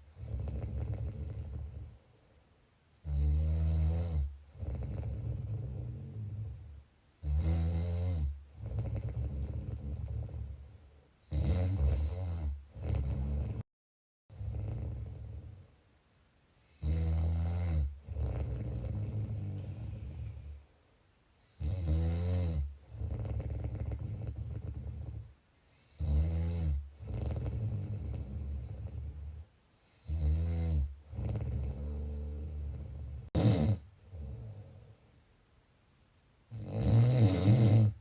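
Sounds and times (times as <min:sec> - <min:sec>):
person snoring: 0:00.1 - 0:02.0, 0:03.0 - 0:10.6, 0:11.3 - 0:13.7, 0:14.3 - 0:15.6, 0:16.7 - 0:20.4, 0:21.5 - 0:34.9, 0:36.5 - 0:38.0.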